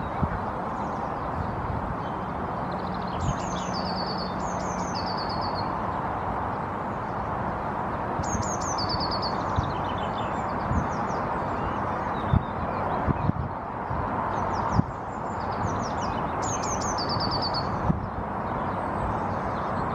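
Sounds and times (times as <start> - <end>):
outdoor background noise: 0.0 - 19.9
songbird singing: 0.0 - 19.9.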